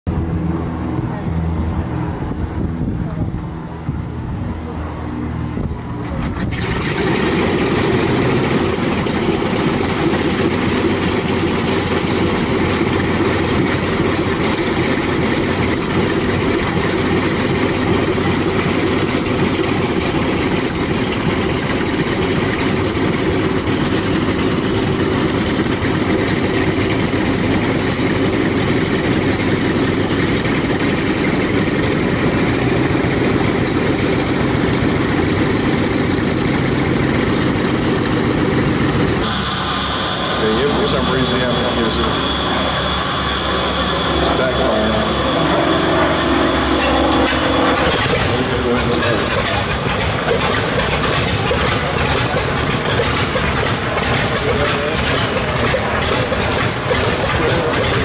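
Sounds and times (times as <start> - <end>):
radial aircraft engine starting: 0.2 - 58.0.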